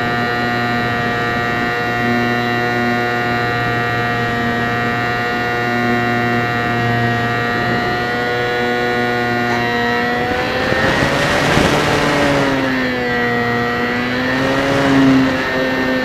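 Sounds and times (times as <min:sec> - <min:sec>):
electric motor and propeller whining: 0:00.0 - 0:16.0
wind noise: 0:00.1 - 0:16.0.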